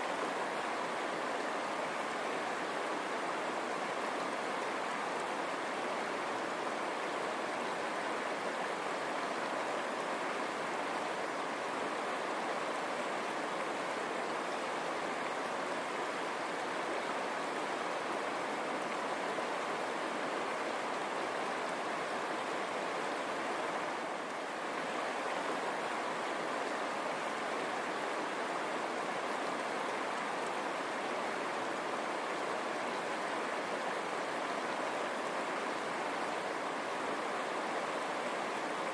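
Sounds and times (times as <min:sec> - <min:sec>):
river water running over stones: 0:00.0 - 0:38.9.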